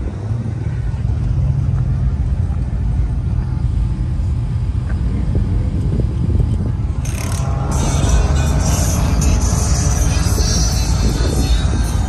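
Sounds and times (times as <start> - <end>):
truck engines rumbling: 0.0 - 12.0.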